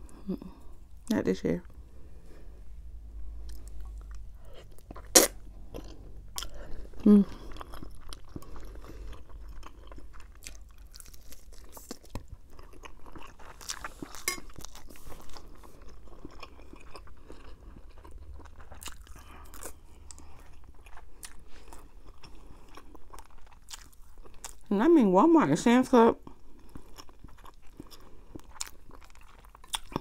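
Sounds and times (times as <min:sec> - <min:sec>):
person chewing and smacking: 0:03.4 - 0:24.7, 0:26.2 - 0:30.0.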